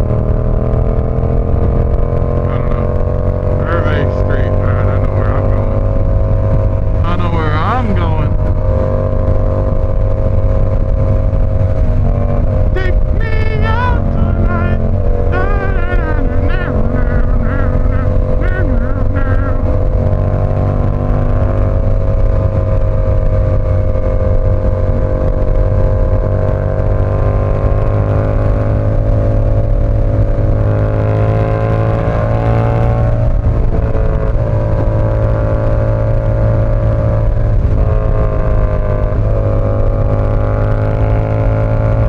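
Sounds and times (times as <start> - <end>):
motorcycle engine cruising: 0.0 - 42.0.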